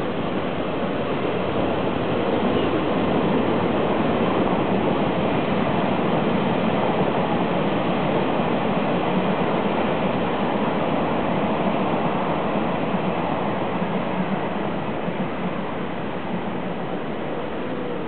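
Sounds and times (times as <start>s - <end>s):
train wheels rushing on track: 0.0s - 18.0s.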